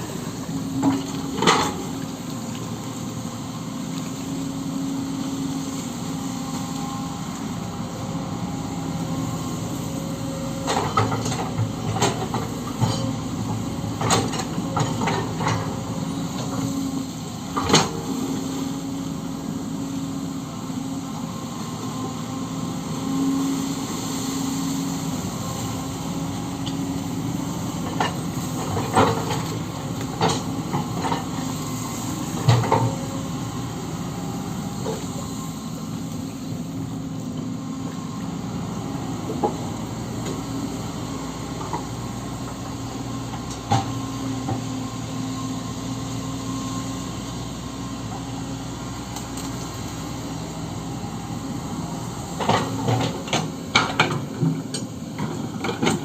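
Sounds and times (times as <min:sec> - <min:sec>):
excavator running: 0:00.0 - 0:56.0.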